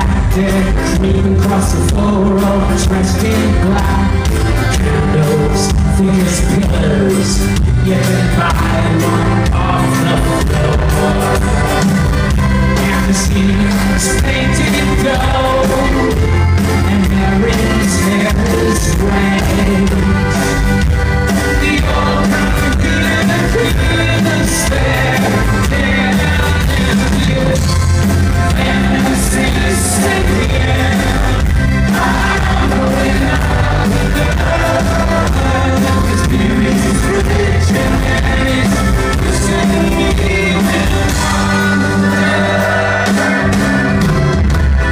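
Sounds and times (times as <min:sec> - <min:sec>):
person singing: 0:00.0 - 0:20.7, 0:21.4 - 0:44.4
accordion: 0:00.0 - 0:44.9
acoustic guitars: 0:00.0 - 0:44.9
drums: 0:00.0 - 0:44.9.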